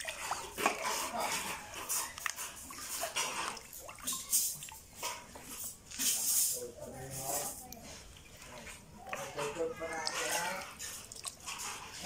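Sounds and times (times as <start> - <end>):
water splashing in plastic tub: 0.0 - 12.0.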